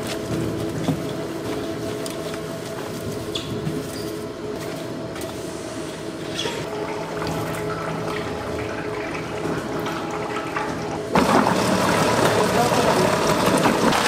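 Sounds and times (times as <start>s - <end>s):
factory machinery hum: 0.0s - 14.0s.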